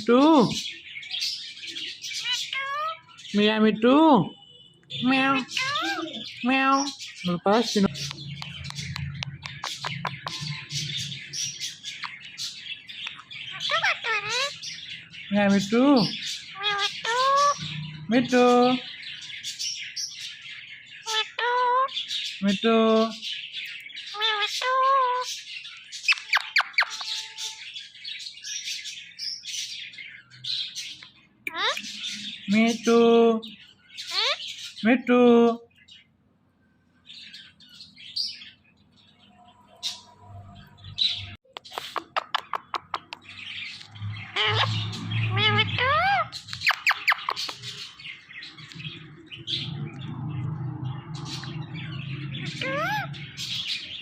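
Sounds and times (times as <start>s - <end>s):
parakeet calling: 0.0s - 34.9s, 37.0s - 54.0s
small birds chirping: 0.0s - 54.0s.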